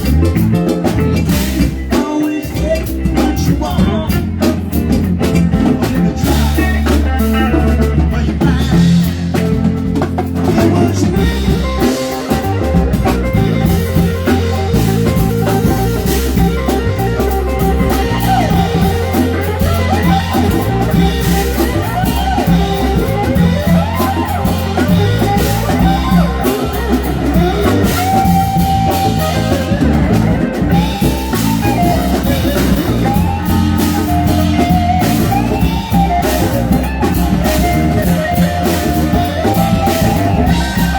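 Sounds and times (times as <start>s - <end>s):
drum kit: 0.0s - 40.9s
guitar: 0.0s - 40.9s
live band playing: 0.0s - 40.9s.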